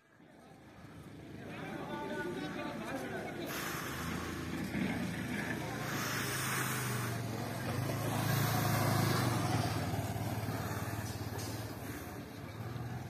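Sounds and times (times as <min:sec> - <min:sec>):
vehicle engine humming: 0:00.7 - 0:13.0.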